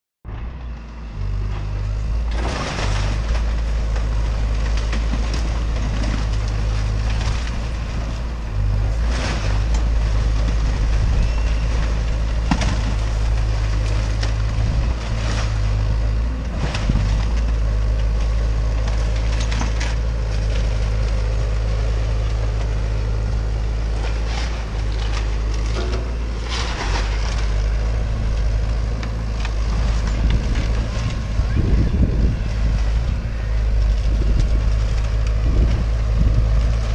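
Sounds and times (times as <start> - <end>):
excavator diesel engine humming: 0.3 - 36.9
timber and debris crashing: 1.6 - 36.9.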